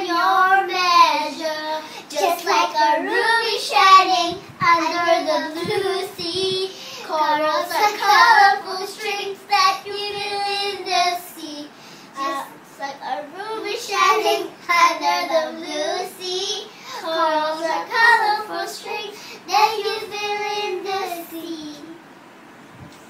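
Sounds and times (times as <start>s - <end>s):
girl singing unaccompanied: 0.0s - 22.1s.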